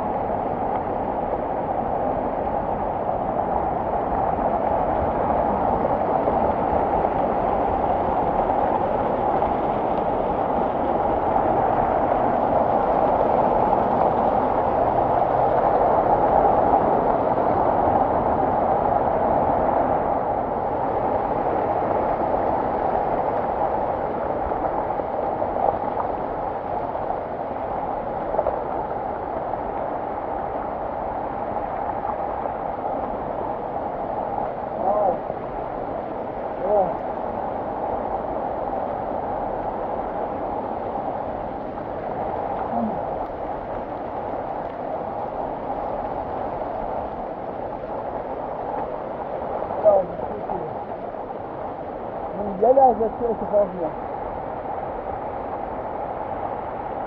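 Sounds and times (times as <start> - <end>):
floodwater rushing over rocks: 0.0 - 57.0.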